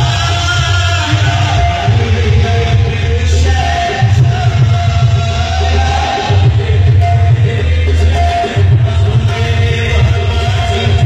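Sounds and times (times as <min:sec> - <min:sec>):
held instrumental tones: 0:00.0 - 0:11.0
pulsing low drum notes: 0:00.0 - 0:11.0
qawwali singing: 0:00.0 - 0:11.0.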